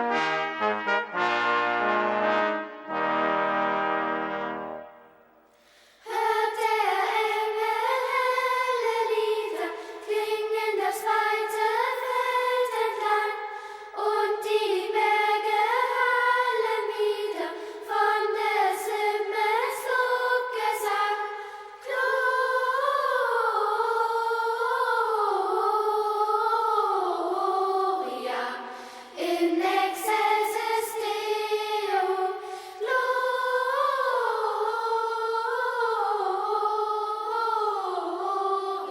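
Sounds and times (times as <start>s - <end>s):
choir of high voices singing: 6.0s - 38.9s.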